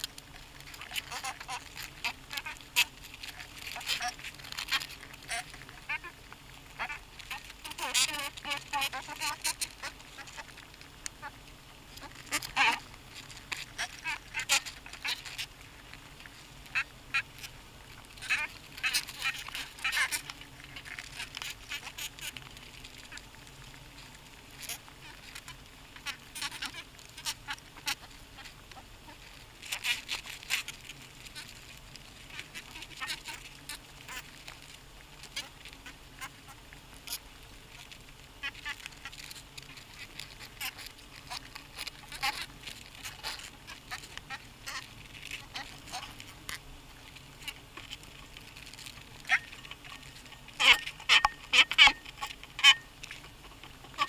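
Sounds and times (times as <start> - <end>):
faint low hum: 0.0 - 54.0.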